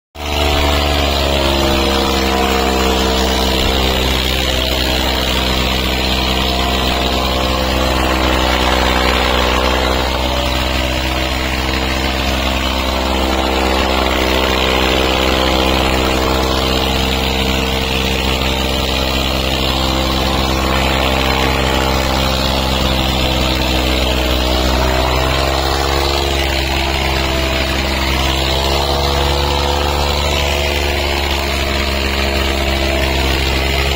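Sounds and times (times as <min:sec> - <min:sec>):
tractor engines droning under load: 0:00.2 - 0:33.9.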